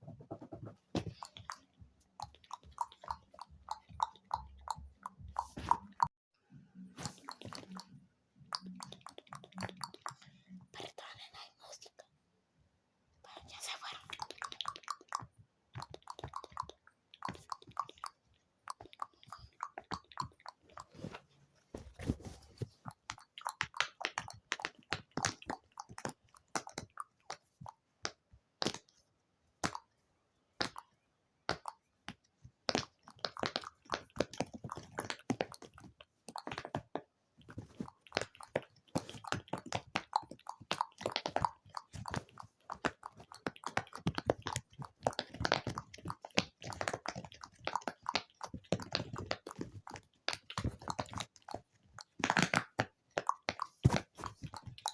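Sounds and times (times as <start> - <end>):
wet mouth clicks and smacks: 1.1 - 6.1, 7.0 - 11.1, 13.4 - 21.1, 22.8 - 28.9, 29.6 - 30.0, 30.6 - 54.9.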